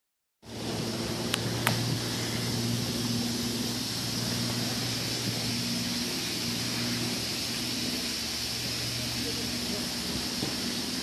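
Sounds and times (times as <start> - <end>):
low even hum: 0.4 - 11.0
outdoor background hiss: 0.4 - 11.0.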